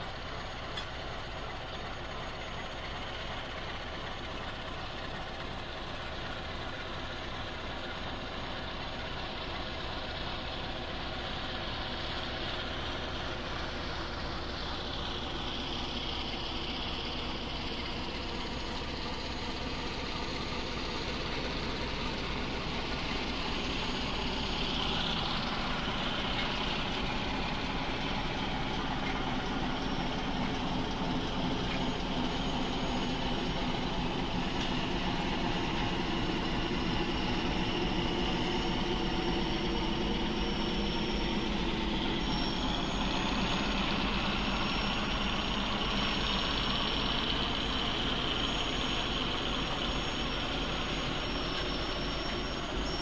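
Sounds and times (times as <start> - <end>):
train engine and running gear drone: 0.0 - 53.0.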